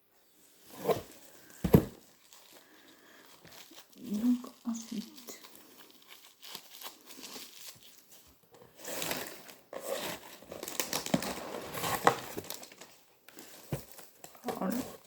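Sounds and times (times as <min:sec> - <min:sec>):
packaging crinkling and tearing: 0:01.1 - 0:15.0.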